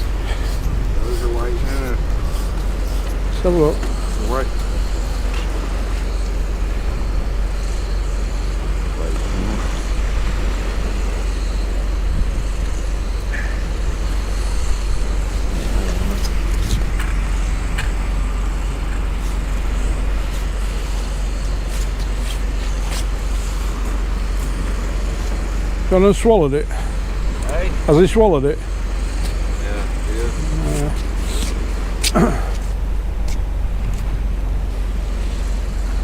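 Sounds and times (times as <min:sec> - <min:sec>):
sea waves on shore: 0:00.0 - 0:36.0
wind: 0:00.0 - 0:36.0.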